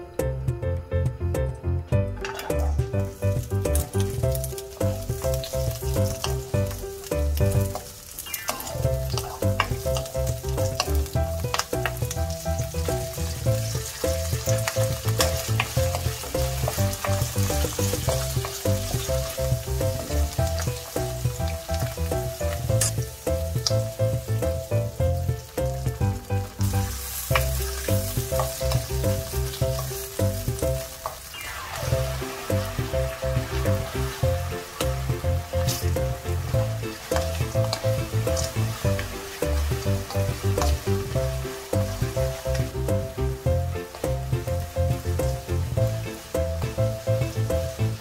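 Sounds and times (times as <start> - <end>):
vegetables sizzling in hot oil: 2.3 - 48.0.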